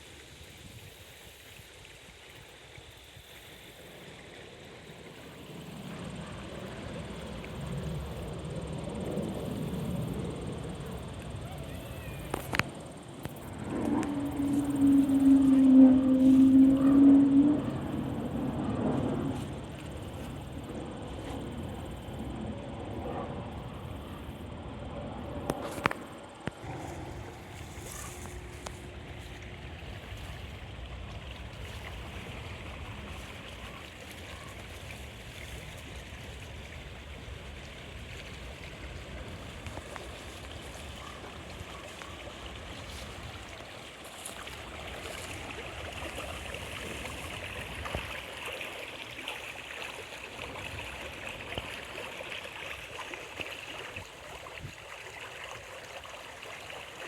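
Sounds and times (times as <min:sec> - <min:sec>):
stream of water running: 0:00.0 - 0:57.0.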